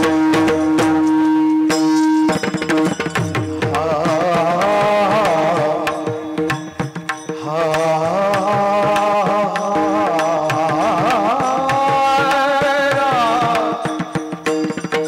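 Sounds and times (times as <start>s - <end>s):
hand drums beating: 0.0s - 15.0s
held instrumental tone: 0.0s - 15.0s
person singing ornamented notes: 0.0s - 15.0s.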